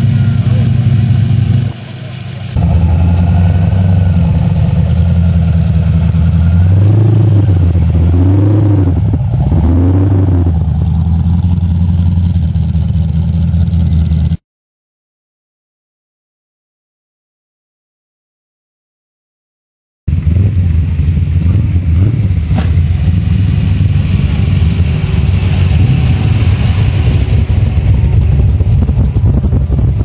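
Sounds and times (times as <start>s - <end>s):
car engine running and revving: 0.0s - 14.4s, 20.1s - 30.0s.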